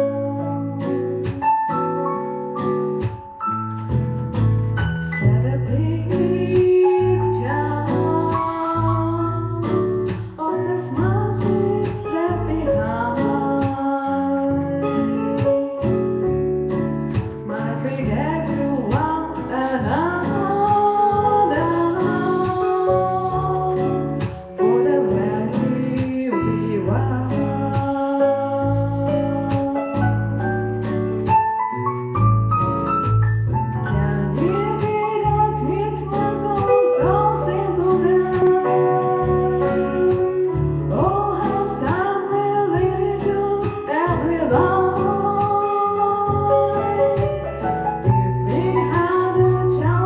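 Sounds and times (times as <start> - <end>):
woman singing into microphone: 0.0 - 1.4, 5.3 - 16.0, 17.1 - 30.6, 33.8 - 50.0
piano accompaniment: 0.0 - 50.0.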